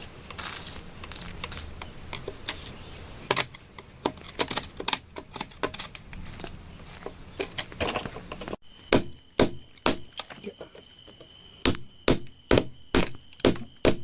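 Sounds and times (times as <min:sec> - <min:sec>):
digging in rocky ground: 0:00.0 - 0:14.0.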